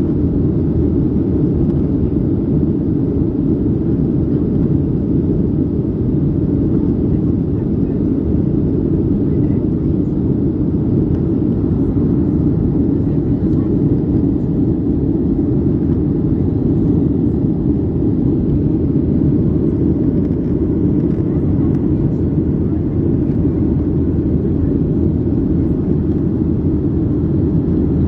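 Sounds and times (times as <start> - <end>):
jet airliner taking off: 0.0 - 28.0.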